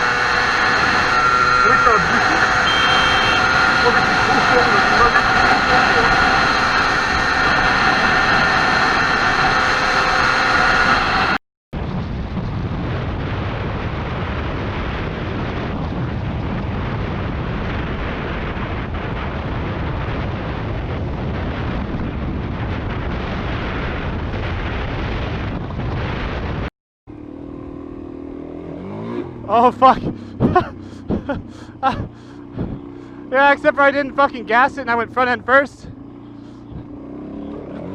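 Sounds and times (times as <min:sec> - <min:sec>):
motorcycle engine whine: 0:00.0 - 0:37.9
wind roar on microphone: 0:00.0 - 0:37.9.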